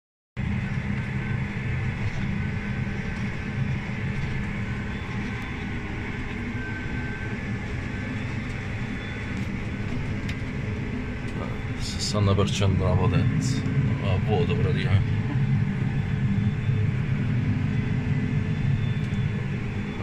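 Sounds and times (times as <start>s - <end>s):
tractor diesel engine droning: 0.4s - 20.0s.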